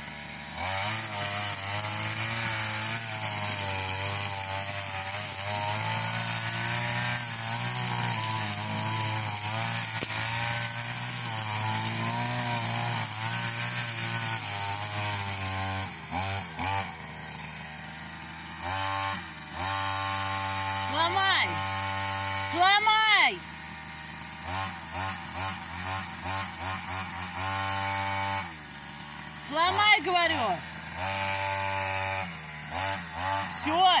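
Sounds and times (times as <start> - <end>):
string trimmer cutting grass: 0.0 - 34.0.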